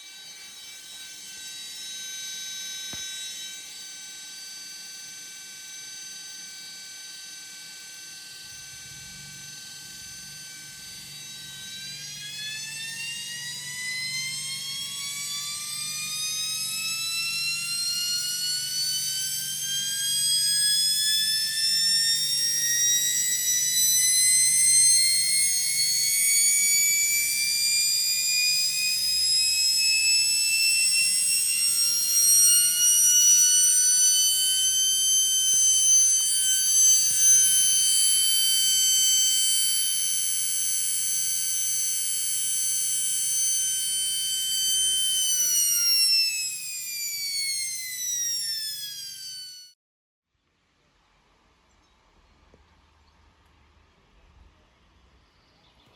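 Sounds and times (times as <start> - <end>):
washing machine motor whine: 0.0 - 49.8.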